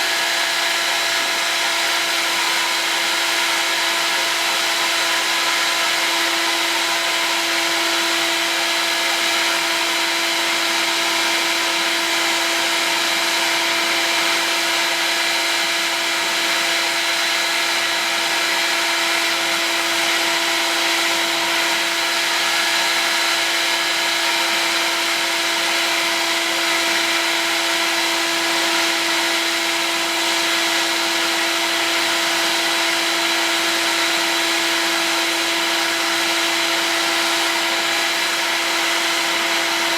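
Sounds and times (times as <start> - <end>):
heat gun blowing: 0.0 - 39.9.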